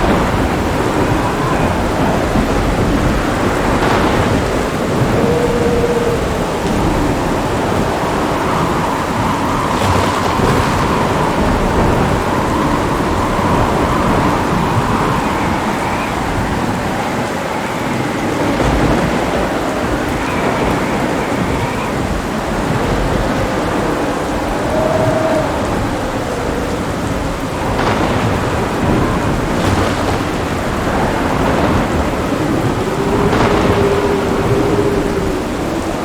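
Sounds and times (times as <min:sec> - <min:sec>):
heavy rain falling: 0:00.0 - 0:36.0
thunder rumbling: 0:00.0 - 0:36.0.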